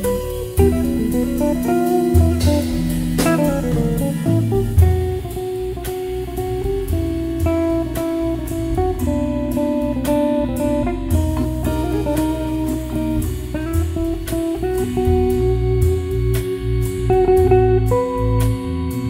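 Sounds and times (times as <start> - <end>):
drums: 0.0 - 19.0
electric guitar solo: 0.0 - 19.0
organ bass line: 0.0 - 19.0.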